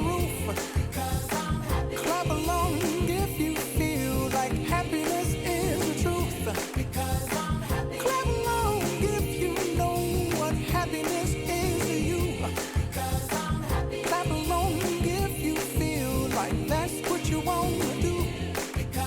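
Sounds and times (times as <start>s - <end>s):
pop music with woman singing: 0.0s - 19.0s.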